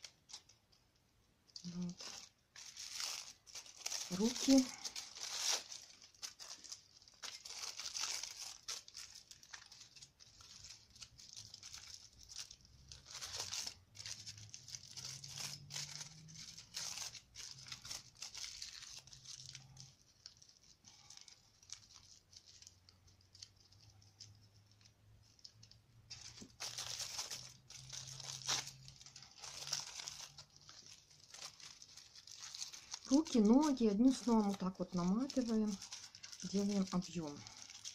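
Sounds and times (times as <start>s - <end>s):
aluminium foil crinkling: 0.0s - 37.9s.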